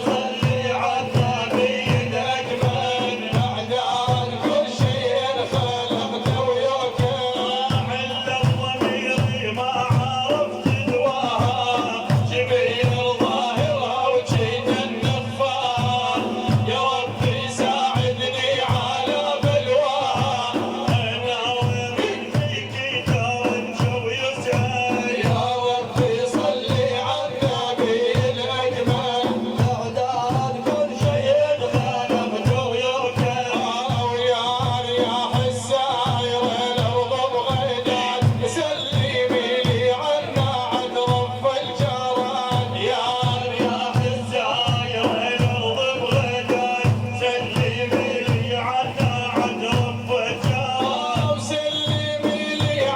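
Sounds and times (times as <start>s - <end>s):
frame drums beating: 0.0s - 52.9s.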